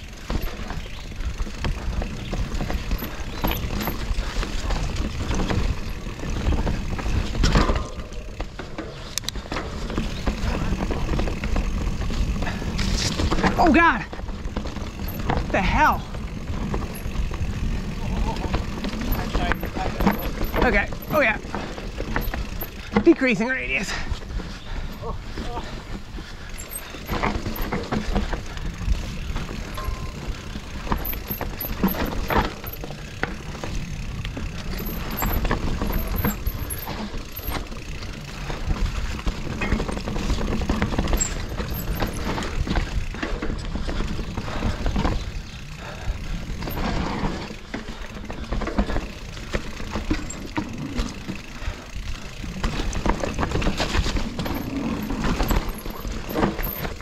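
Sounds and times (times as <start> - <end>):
bike frame and chain rattling: 0.0 - 57.0.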